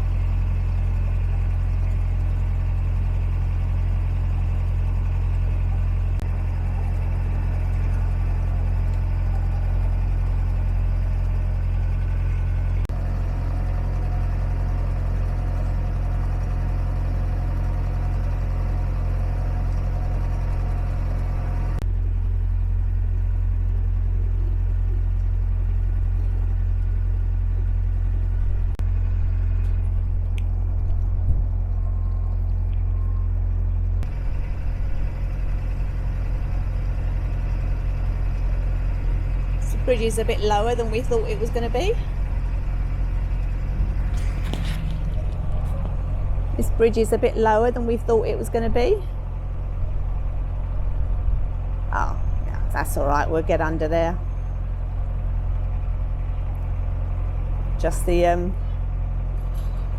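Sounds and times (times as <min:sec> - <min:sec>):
boat diesel engine rumbling: 0:00.0 - 0:59.9.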